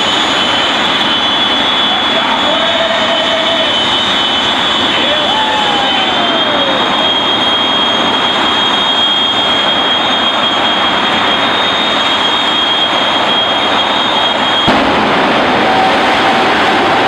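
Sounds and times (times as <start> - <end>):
jet engine roaring: 0.0 - 17.0.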